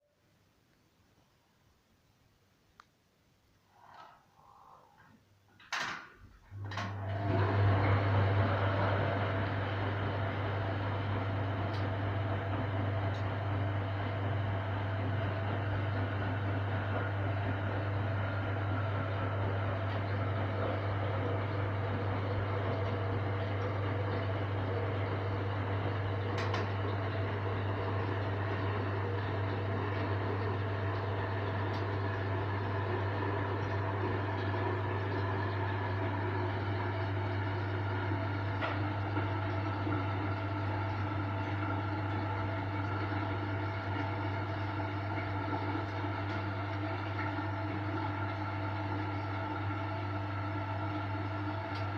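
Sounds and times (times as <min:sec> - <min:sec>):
washing machine motor hum: 0:05.7 - 0:51.9.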